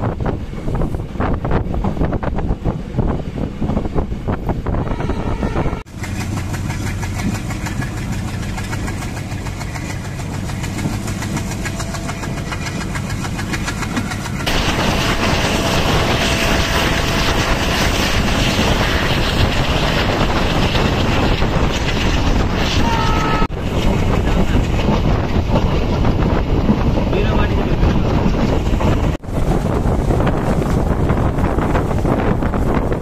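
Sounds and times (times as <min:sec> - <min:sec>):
train rumble from on board: 0:00.0 - 0:33.0.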